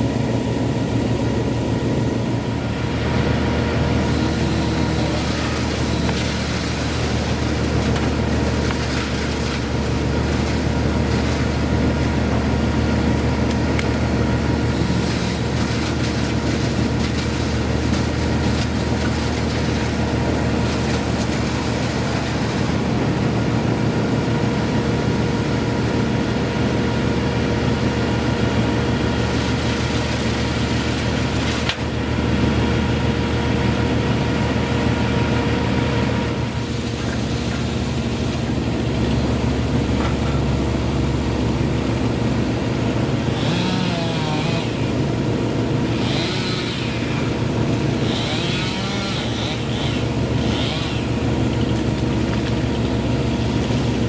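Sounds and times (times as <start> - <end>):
large engine-driven machine running: 0.0 - 54.0.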